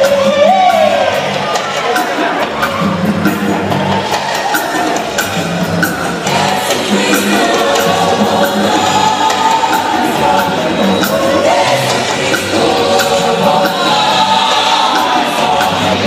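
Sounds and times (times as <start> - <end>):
keyboards: 0.0 - 16.0
voices singing together: 0.0 - 16.0.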